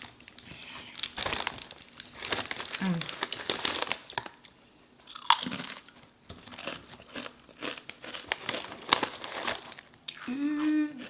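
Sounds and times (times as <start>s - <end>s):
chips crunching while chewed: 1.0s - 4.5s, 5.1s - 10.7s.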